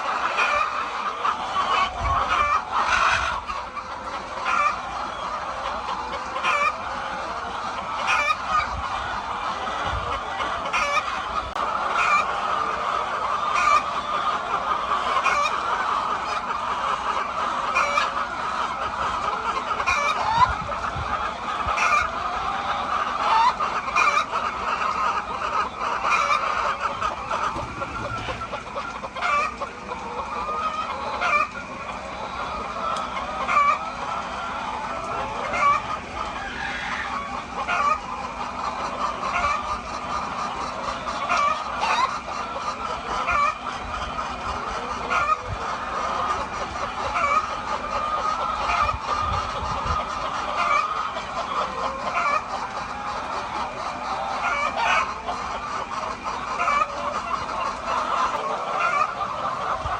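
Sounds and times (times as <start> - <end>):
chickens clucking: 0.0 - 59.9
sharp chicken calls: 0.0 - 59.9.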